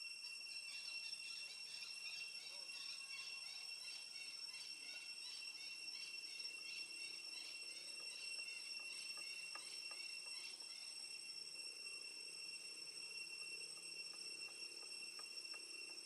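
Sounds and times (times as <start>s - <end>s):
insect chirping: 0.0s - 16.0s
insects droning: 0.0s - 16.0s.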